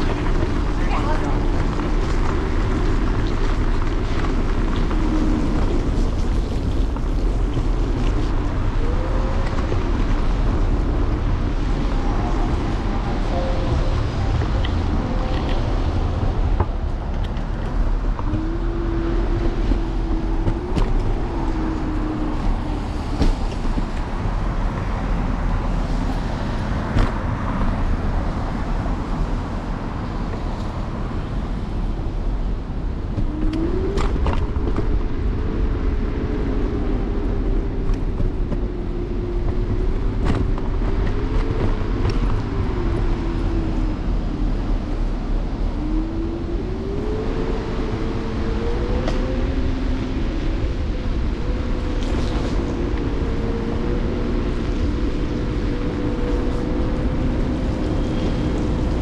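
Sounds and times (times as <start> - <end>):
road rumble: 0.0 - 59.0
wind: 0.0 - 59.0.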